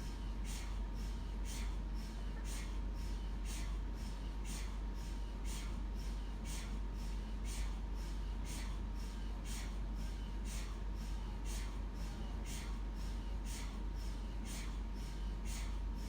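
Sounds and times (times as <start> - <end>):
mri scanner hissing pulses: 0.0 - 16.0
steady low hum: 0.0 - 16.0.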